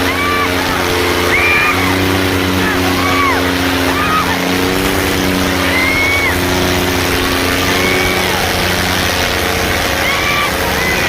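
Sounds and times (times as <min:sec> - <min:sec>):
tractor diesel engines running: 0:00.0 - 0:11.0.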